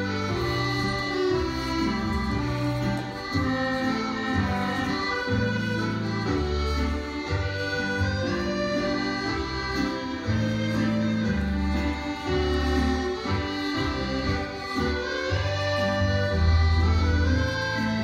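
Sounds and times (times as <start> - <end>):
fiddle dance music: 0.0 - 18.0.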